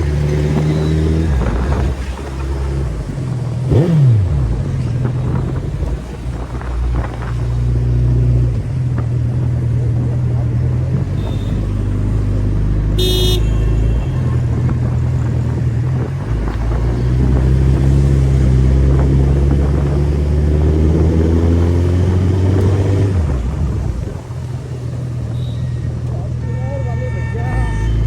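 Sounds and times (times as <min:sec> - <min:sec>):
motorcycle engine revving: 0:00.0 - 0:26.5.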